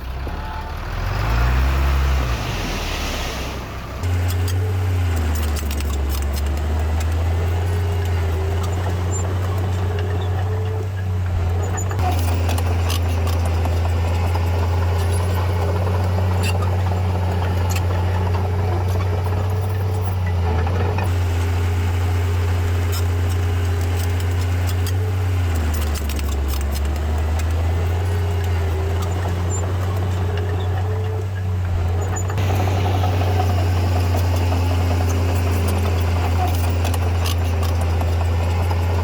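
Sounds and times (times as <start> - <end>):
heavy diesel machinery drone: 0.0 - 39.0.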